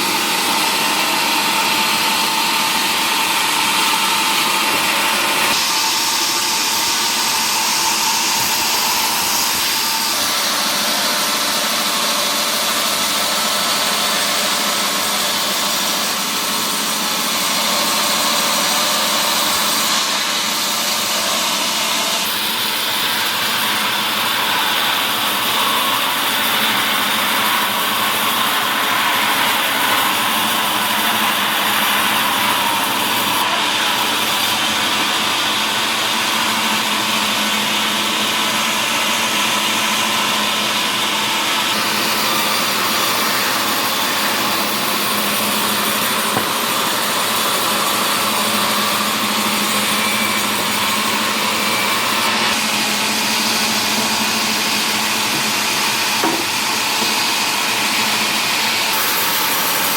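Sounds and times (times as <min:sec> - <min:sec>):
woodworking machinery cutting wood: 0:00.0 - 0:59.9.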